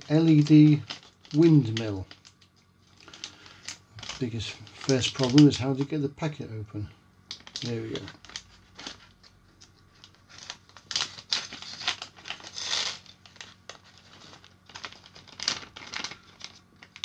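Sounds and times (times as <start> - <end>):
plastic bag crinkling: 0.0 - 5.9, 7.3 - 17.0.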